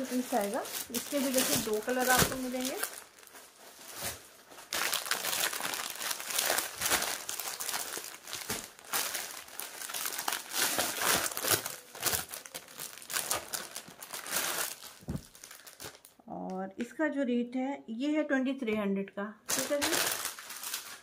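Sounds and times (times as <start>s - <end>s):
plastic bag crinkling: 0.0s - 16.2s, 19.5s - 21.0s.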